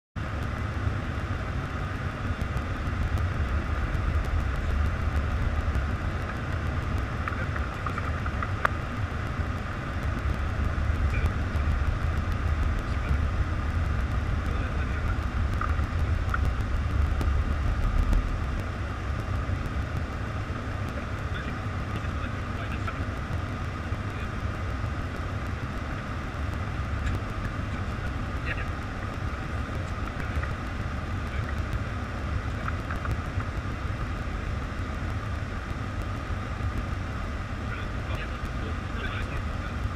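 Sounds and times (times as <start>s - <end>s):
low cockpit rumble: 0.1s - 39.9s.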